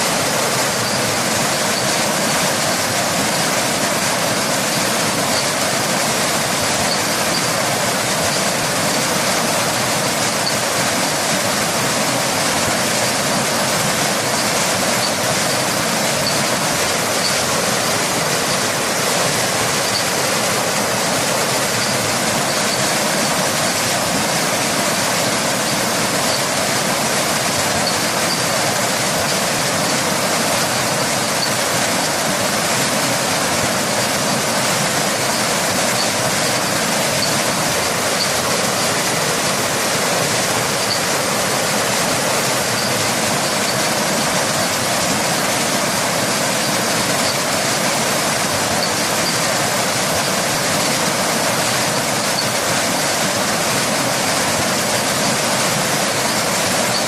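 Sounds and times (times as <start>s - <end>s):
rain: 0.0s - 57.0s
waterfall rushing: 0.0s - 57.0s.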